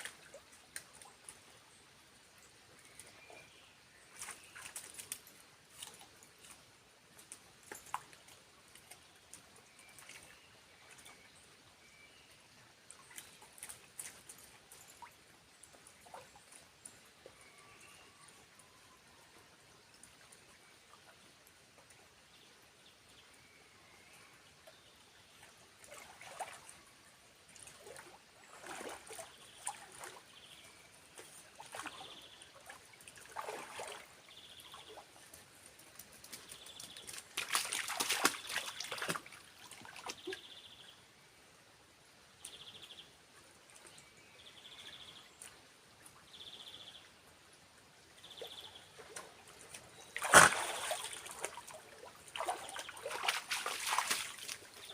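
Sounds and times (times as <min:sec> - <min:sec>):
water splashing and trickling: 0:00.0 - 0:23.4, 0:24.5 - 0:54.9.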